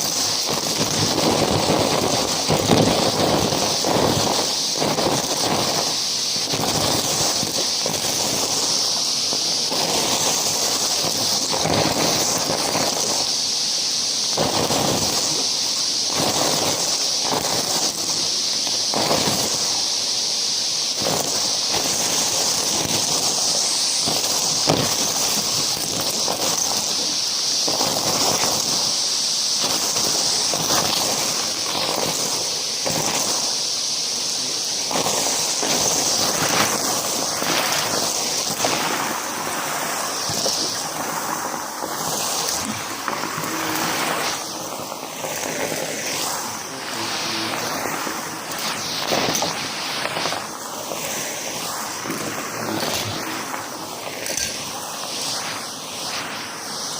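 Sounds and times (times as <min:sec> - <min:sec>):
debris rattling through hose: 0:00.0 - 0:56.8
vacuum cleaner whining: 0:00.0 - 0:56.9.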